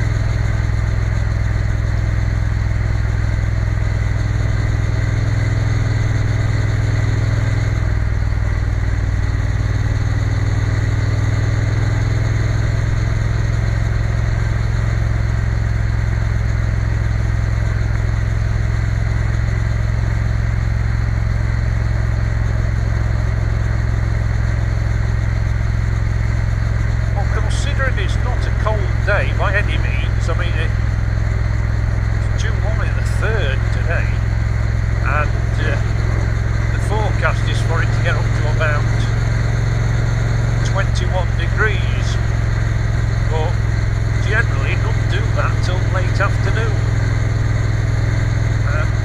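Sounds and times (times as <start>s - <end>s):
motorcycle engine cruising: 0.0s - 49.0s.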